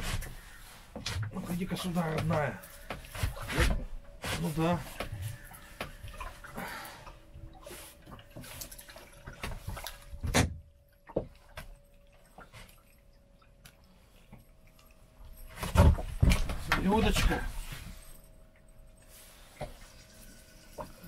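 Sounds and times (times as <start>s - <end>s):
faint steady hum: 0.1s - 21.0s.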